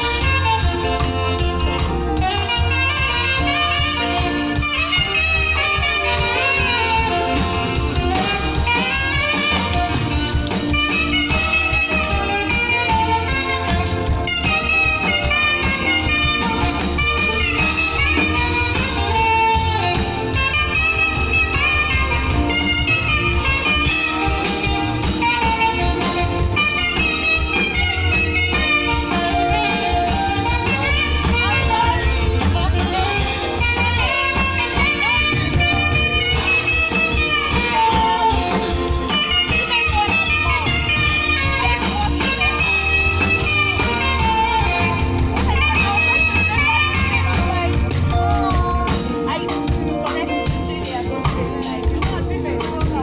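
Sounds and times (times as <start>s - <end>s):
band backing with bass line: 0.0s - 53.0s
saxophone playing worship melody: 0.0s - 53.0s.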